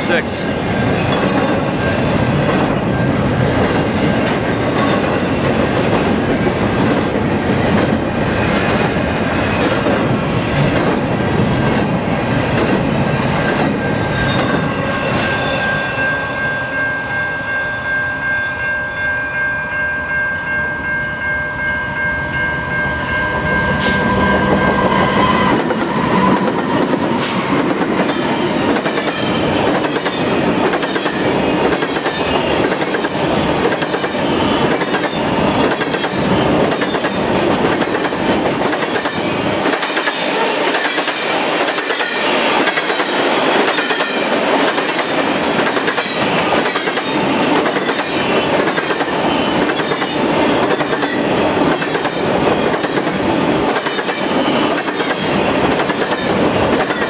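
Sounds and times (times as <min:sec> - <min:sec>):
train wheels clacking on rails: 0:00.3 - 0:14.8, 0:23.0 - 0:57.0.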